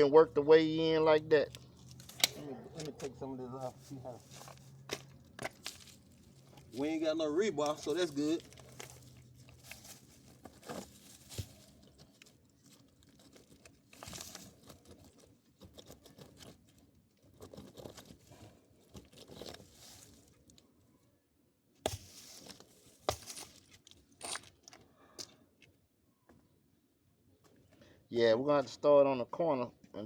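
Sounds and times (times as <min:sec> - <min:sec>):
crunching and scraping of concrete: 0:01.3 - 0:21.0, 0:21.8 - 0:26.6.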